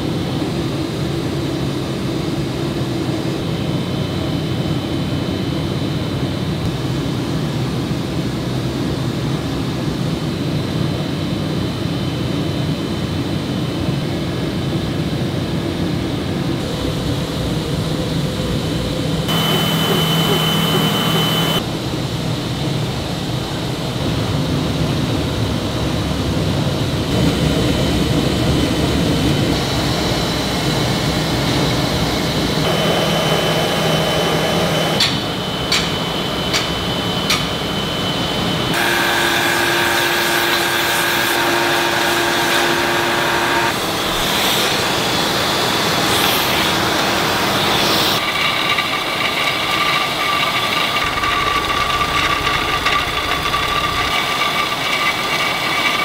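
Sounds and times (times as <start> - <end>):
factory machinery humming and whining: 0.0 - 56.0.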